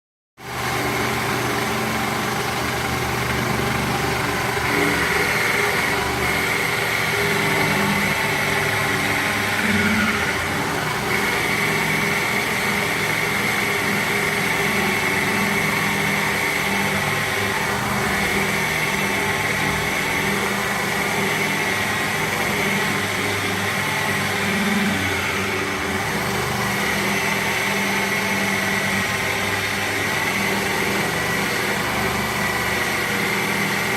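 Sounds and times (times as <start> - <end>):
band saw cutting wood: 0.4 - 33.9.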